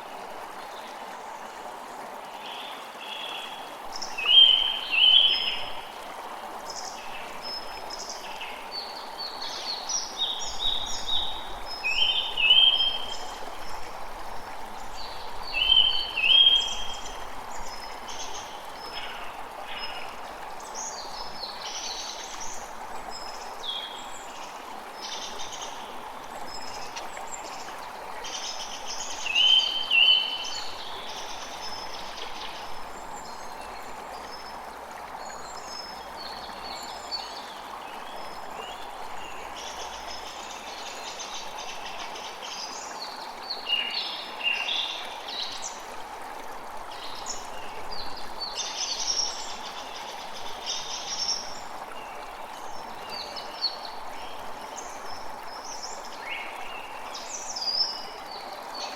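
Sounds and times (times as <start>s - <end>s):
running stream: 0.0s - 58.9s.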